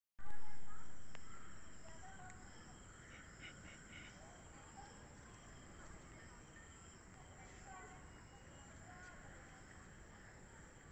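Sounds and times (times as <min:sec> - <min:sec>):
high-pitched insect drone: 0:00.4 - 0:10.8.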